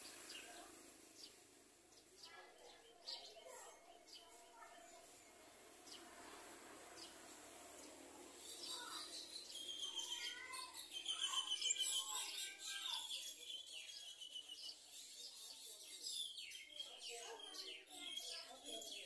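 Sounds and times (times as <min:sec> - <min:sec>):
small birds chirping and twittering: 0:00.0 - 0:19.0.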